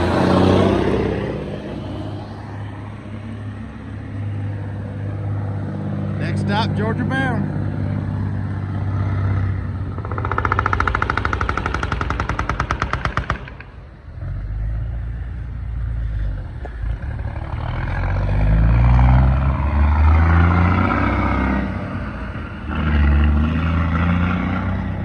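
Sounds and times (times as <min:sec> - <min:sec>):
heavy truck engine pulling away: 0:00.0 - 0:25.0.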